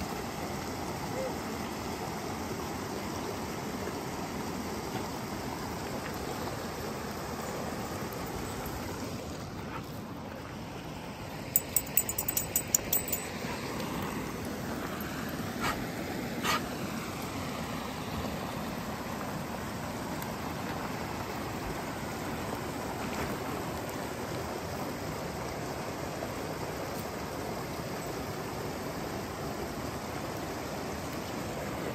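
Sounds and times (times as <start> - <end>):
creek water rushing: 0.0 - 31.9.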